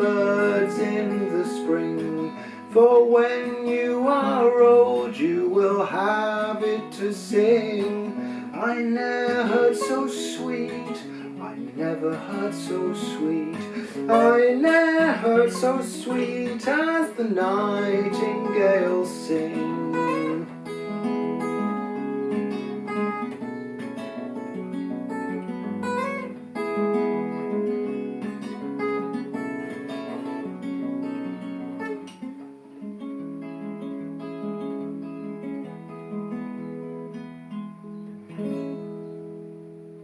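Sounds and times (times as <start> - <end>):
acoustic guitar picked and strummed: 0.0 - 40.0.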